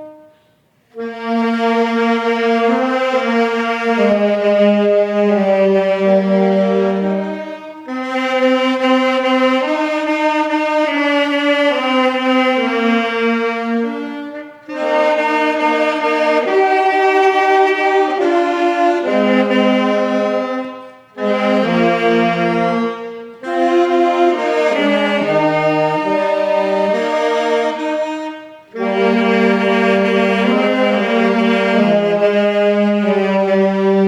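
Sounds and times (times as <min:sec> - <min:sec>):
hymn on horn-like wind instrument: 0:00.0 - 0:34.0.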